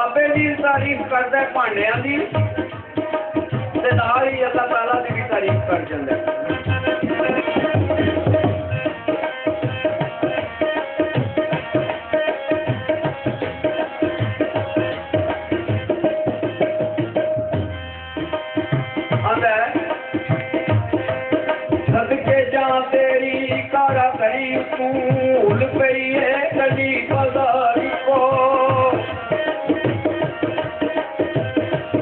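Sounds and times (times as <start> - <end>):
tabla playing quick rhythm: 0.0 - 32.0.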